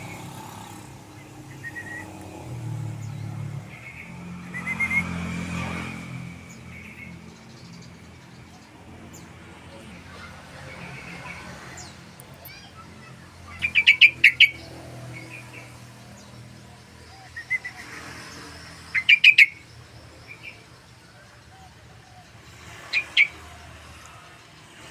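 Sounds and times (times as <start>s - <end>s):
bird singing rapid notes: 0.0s - 24.7s.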